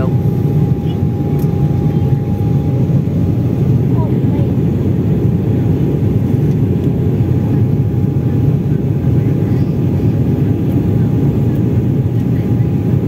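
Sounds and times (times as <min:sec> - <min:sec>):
airliner engines and airflow rumble: 0:00.0 - 0:13.0.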